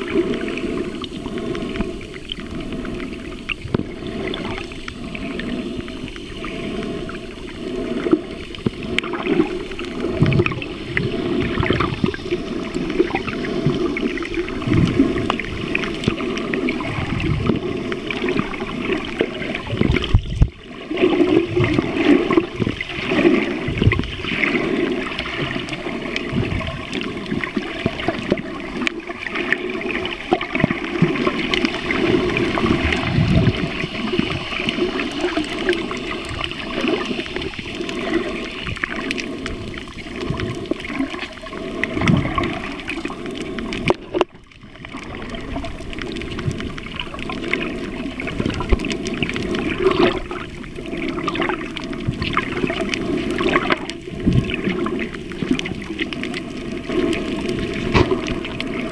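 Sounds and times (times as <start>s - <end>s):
muffled underwater water gurgling: 0.0s - 58.9s.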